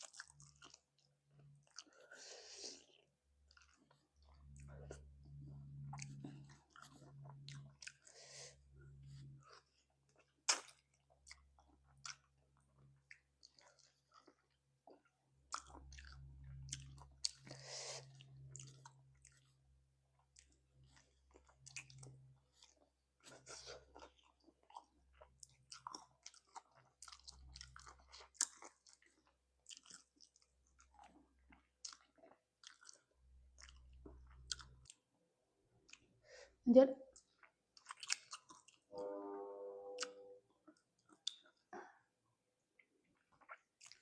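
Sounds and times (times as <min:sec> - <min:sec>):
chewing with wet smacks: 0:00.0 - 0:02.2, 0:02.8 - 0:35.1, 0:35.8 - 0:36.1, 0:37.1 - 0:38.9, 0:40.7 - 0:41.7, 0:42.7 - 0:44.0.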